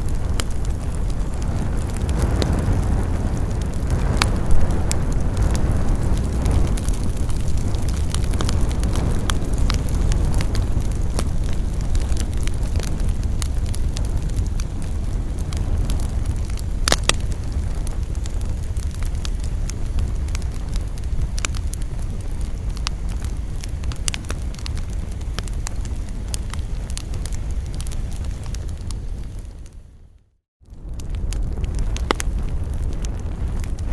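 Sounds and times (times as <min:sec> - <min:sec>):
wood campfire burning: 0:00.0 - 0:33.9.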